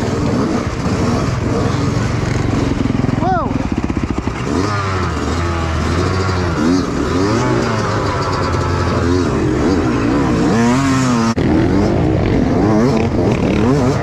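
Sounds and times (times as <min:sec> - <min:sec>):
dirt bike engine revving: 0:00.0 - 0:14.0
dirt bikes riding in group: 0:00.0 - 0:14.0.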